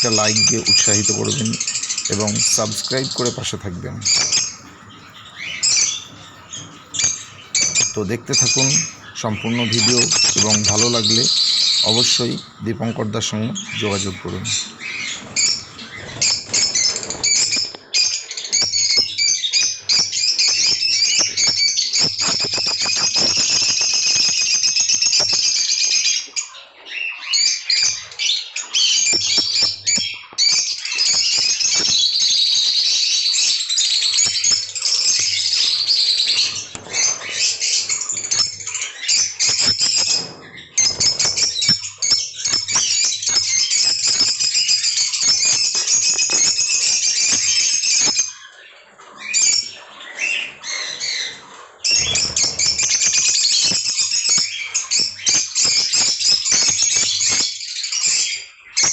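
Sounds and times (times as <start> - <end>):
lovebirds chattering and squawking: 0.0 - 58.9.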